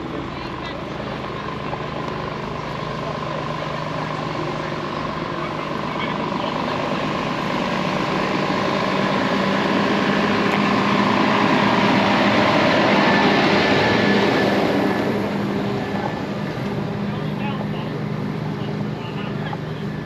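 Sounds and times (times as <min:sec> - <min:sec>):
aircraft engine passing overhead: 0:00.0 - 0:20.0.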